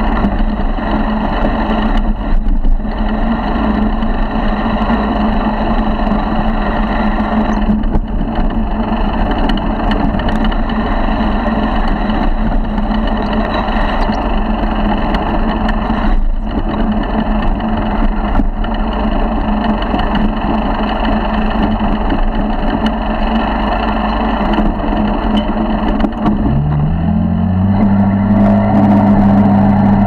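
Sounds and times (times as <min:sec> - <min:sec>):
motorized bicycle engine running: 0:00.0 - 0:30.0.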